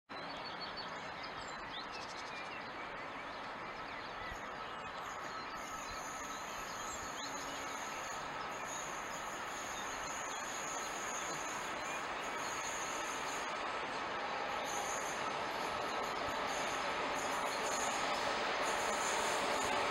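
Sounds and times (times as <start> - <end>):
birds chirping: 0.2 - 19.9
high whine from rails: 0.5 - 19.9
diesel train rumble: 2.6 - 19.9.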